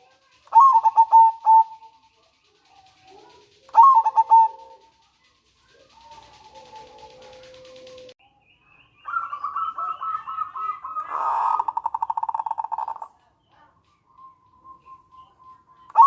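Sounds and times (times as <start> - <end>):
dove cooing trill: 0.0 - 8.2, 9.0 - 16.0.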